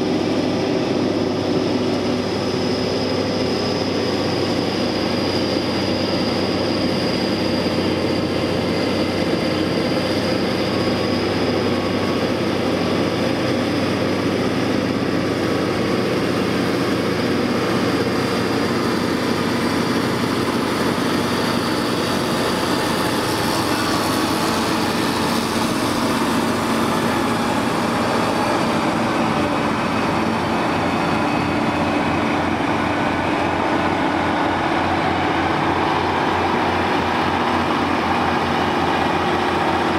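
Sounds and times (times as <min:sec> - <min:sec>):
diesel engines running: 0:00.0 - 0:39.9
high thin whine: 0:00.0 - 0:39.9.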